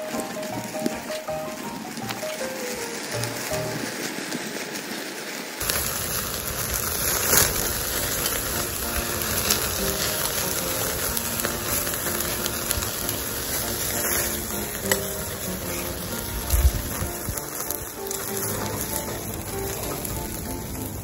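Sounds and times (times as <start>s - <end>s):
background music: 0.0s - 4.0s, 7.3s - 21.0s
flames flaring: 0.0s - 21.0s
meat sizzling and crackling: 0.0s - 21.0s.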